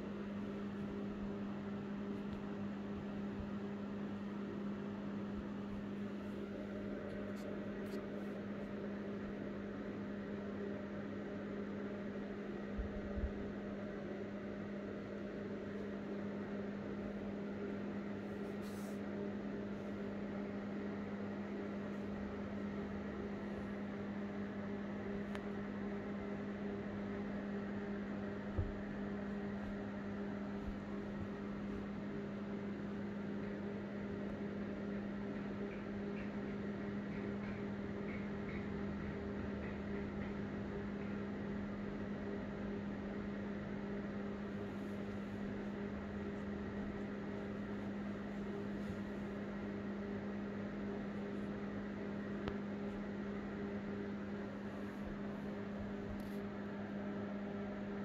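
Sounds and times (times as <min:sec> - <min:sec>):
appliance humming with hiss: 0:00.0 - 0:58.0.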